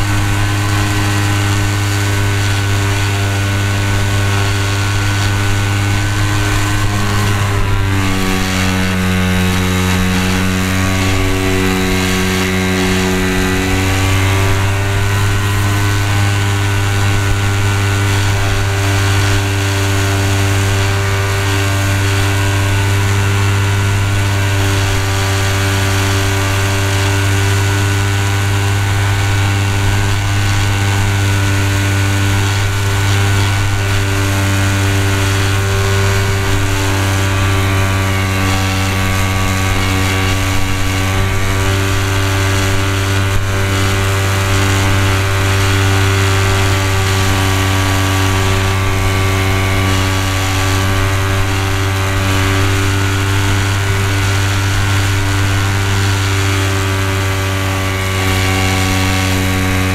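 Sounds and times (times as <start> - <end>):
model plane motor and propeller: 0.0 - 59.9.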